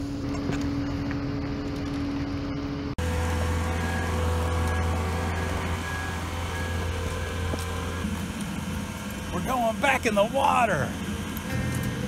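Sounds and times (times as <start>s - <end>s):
engine droning: 0.0s - 12.0s
mechanical hum: 0.0s - 12.0s.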